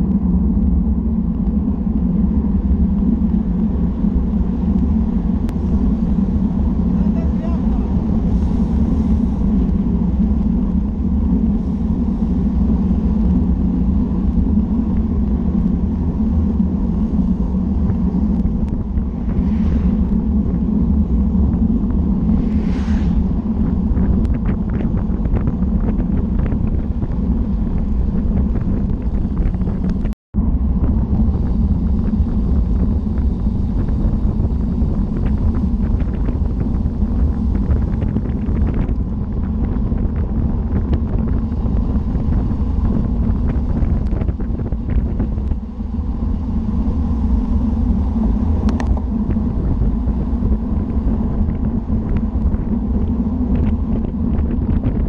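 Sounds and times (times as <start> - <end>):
bike tyres rolling on asphalt: 0.0 - 55.0
wind buffeting microphone: 0.0 - 55.0.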